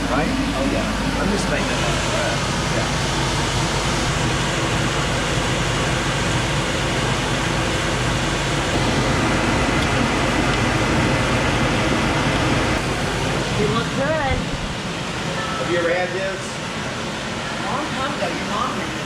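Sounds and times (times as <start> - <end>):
kitchen exhaust fan running: 0.0 - 19.0.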